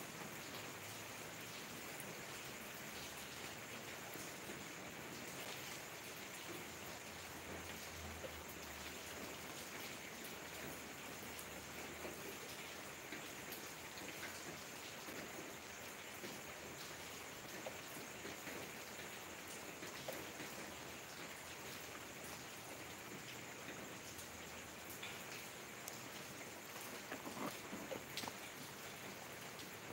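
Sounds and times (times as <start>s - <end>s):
rain drops ticking: 0.0s - 29.9s.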